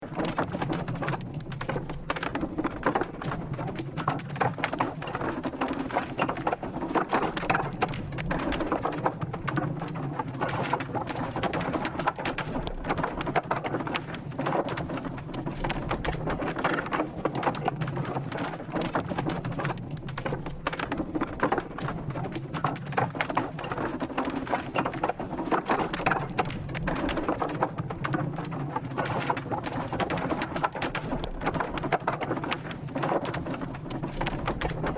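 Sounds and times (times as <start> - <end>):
wooden wheel rumbling: 0.0 - 34.9.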